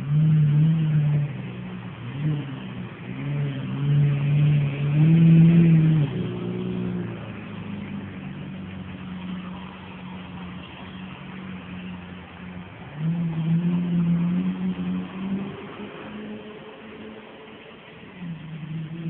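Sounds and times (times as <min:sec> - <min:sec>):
sports car engine revving: 0:00.0 - 0:19.0.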